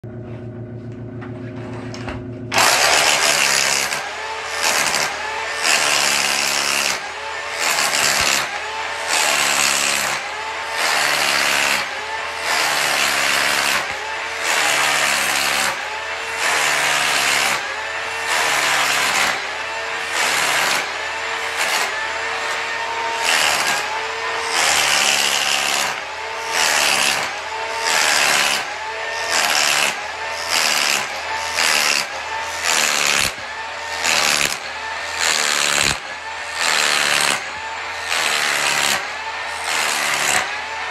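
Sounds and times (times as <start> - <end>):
demolition hammer chipping tile: 2.5 - 40.9.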